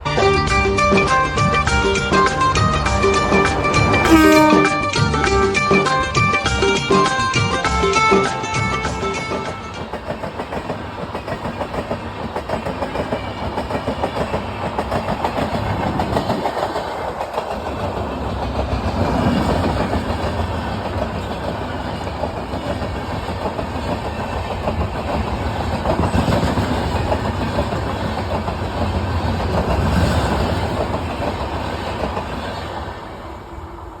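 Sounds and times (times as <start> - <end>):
train rumbling on rails: 0.0 - 34.0
wheels clickety-clack: 1.0 - 33.0.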